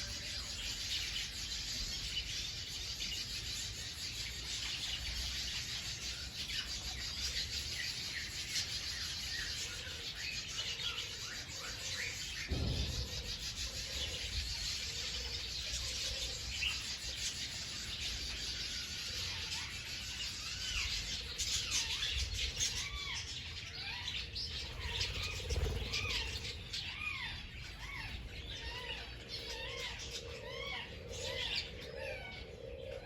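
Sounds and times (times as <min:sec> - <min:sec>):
flock of birds chirping: 0:00.0 - 0:33.0.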